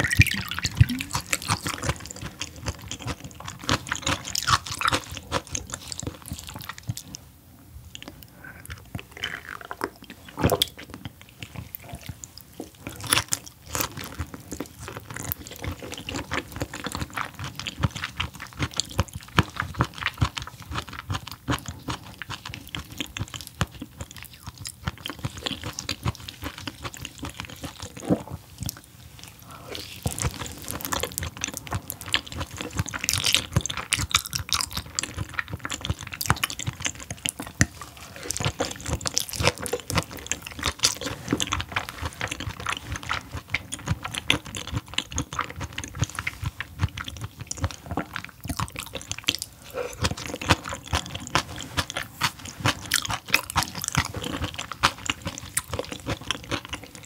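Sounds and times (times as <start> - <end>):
wet chewing mouth clicks: 0.0 - 7.2, 7.9 - 57.0.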